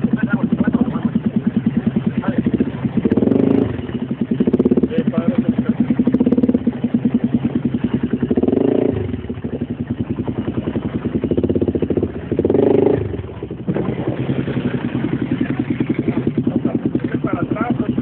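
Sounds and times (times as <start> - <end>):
motorcycle engine puttering: 0.0 - 18.0.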